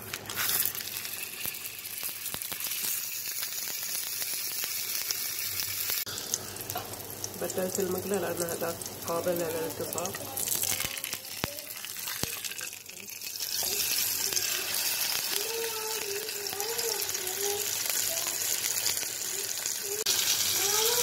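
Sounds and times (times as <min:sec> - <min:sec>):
patty sizzling in frying pan: 0:00.0 - 0:21.0.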